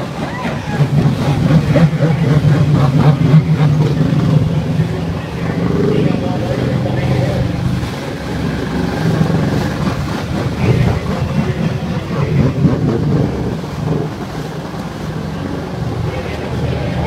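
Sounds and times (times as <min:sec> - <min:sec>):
jet ski engine running hard: 0:00.0 - 0:17.0
water churning and spraying: 0:00.0 - 0:17.0.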